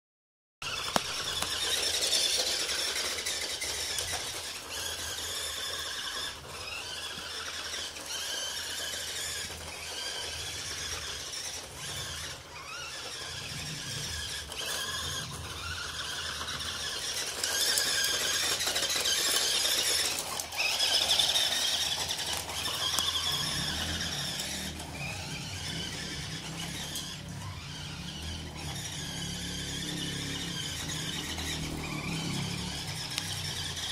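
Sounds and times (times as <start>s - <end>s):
toy car electric motor whining: 0.6s - 33.9s.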